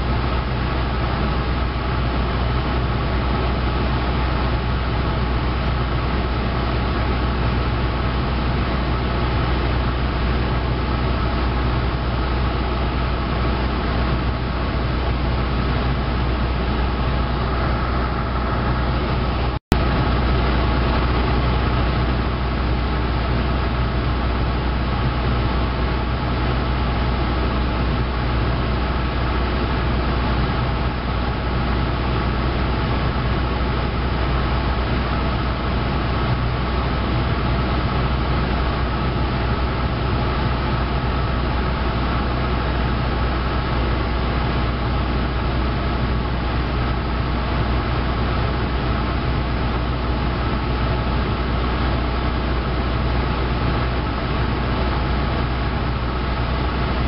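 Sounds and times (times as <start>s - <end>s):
aircraft engine hum in cabin: 0.0s - 57.0s.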